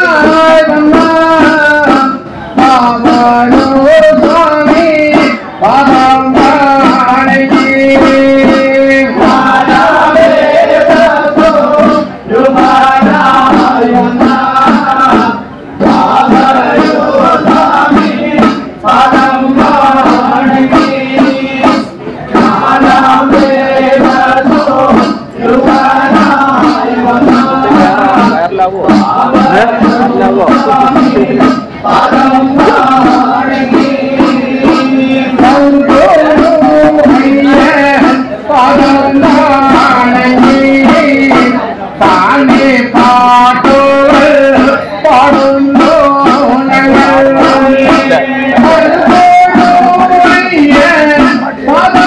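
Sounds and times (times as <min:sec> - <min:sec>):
men singing devotional song: 0:00.0 - 0:52.0.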